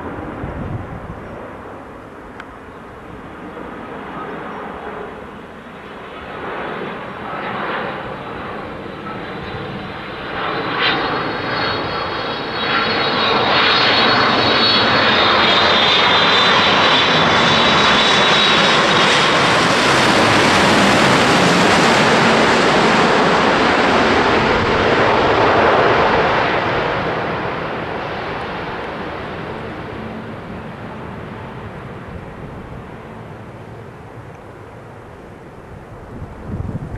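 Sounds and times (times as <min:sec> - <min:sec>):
jet engines roaring with whine: 0:00.0 - 0:36.9.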